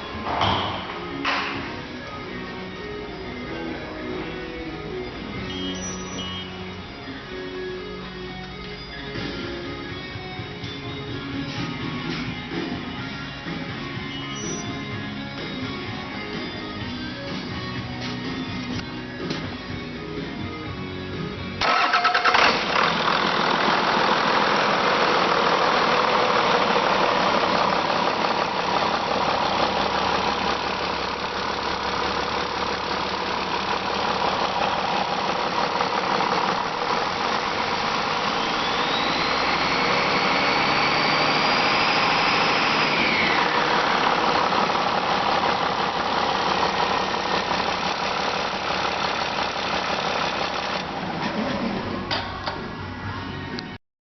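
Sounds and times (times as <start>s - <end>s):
diesel engine running: 0.0s - 53.6s.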